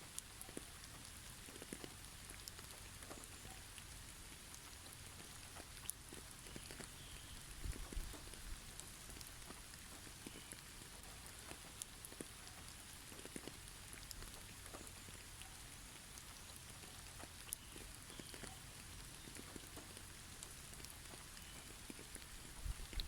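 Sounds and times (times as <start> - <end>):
light ticks and patters: 0.0 - 23.0
soft steady hiss: 0.0 - 23.0.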